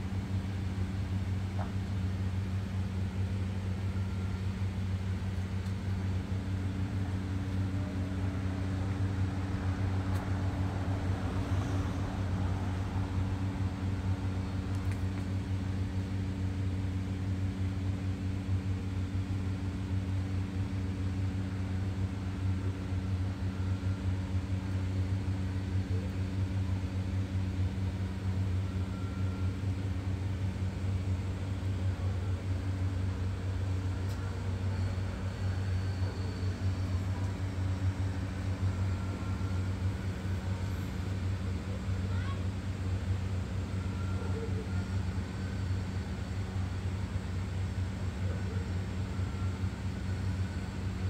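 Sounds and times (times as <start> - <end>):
motor humming steadily: 0.0 - 51.0.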